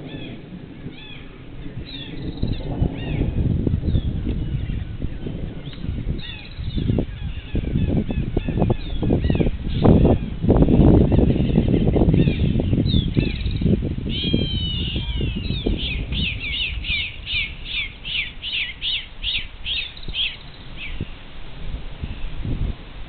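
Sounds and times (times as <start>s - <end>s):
bird calling: 0.0s - 10.4s, 11.0s - 21.2s
wind rumble on microphone: 0.0s - 23.0s.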